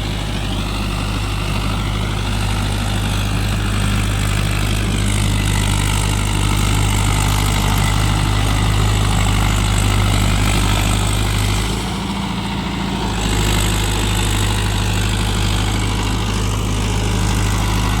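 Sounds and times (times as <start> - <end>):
tractor diesel engine drone: 0.0 - 18.0.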